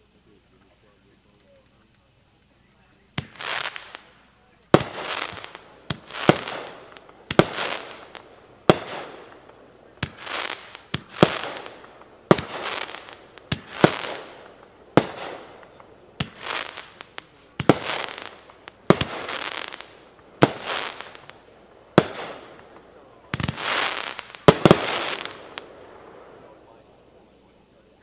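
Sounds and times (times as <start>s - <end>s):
fireworks shots with hiss: 0.0s - 27.9s.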